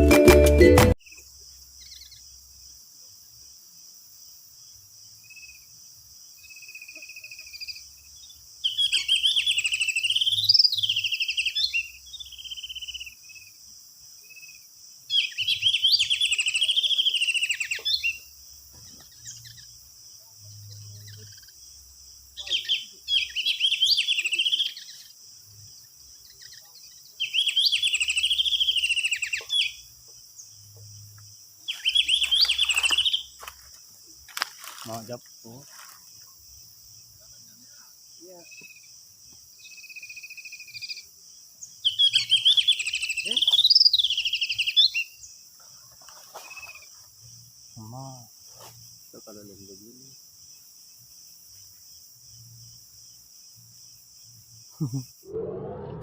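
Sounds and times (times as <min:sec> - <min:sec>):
birds singing rapid warbling song: 0:01.0 - 0:55.8.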